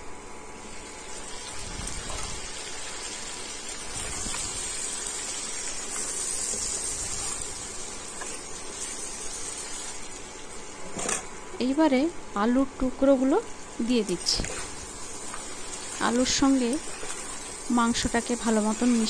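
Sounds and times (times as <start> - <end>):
meat sizzling in oil: 0.6 - 11.0, 13.0 - 19.0.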